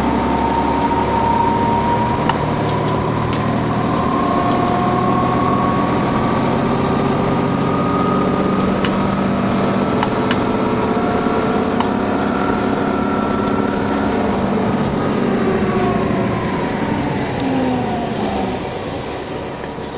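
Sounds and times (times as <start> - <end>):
bus engine drone: 0.0 - 19.9.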